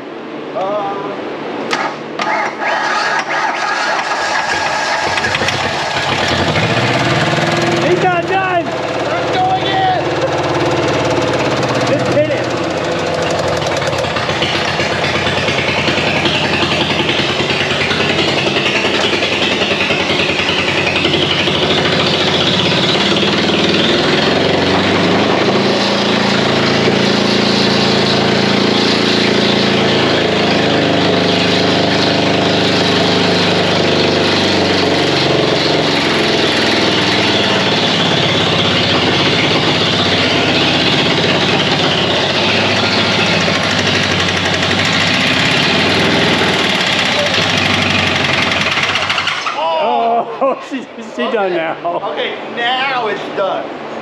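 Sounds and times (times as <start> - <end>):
damaged engine running: 1.7 - 49.8.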